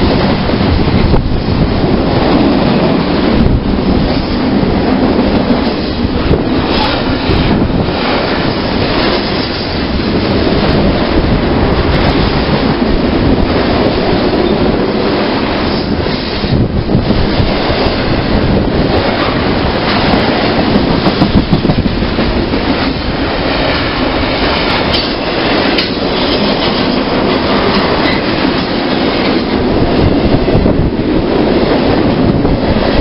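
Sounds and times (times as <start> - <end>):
freight train running on rails: 0.0 - 33.0.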